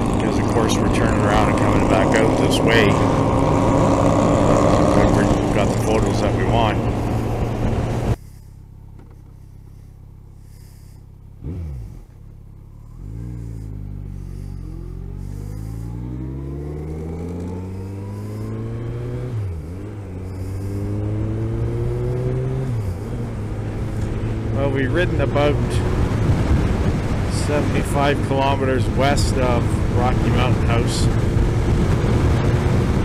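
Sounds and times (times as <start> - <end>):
motorcycle engine revving through gears: 0.0 - 33.0.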